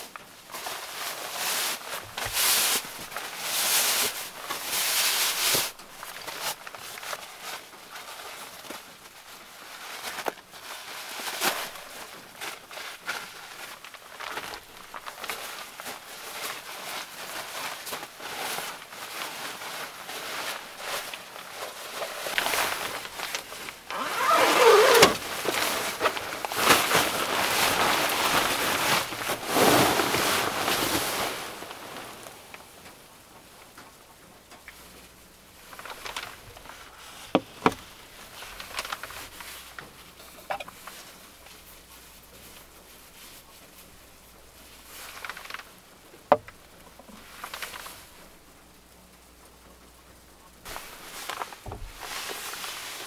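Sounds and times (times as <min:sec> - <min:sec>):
sleeping bag rustling: 0:00.0 - 0:33.0, 0:35.0 - 0:48.4, 0:50.6 - 0:53.0.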